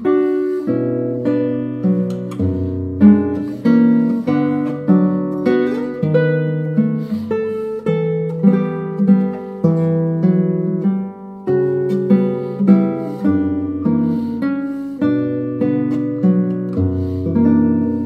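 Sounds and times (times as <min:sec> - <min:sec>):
plucked acoustic guitar music: 0:00.0 - 0:18.0.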